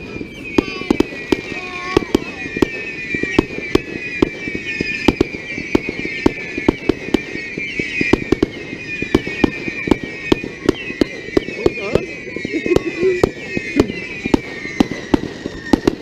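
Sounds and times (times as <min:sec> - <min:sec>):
falling whistling tones: 0:00.0 - 0:16.0
fireworks bangs: 0:00.0 - 0:16.0.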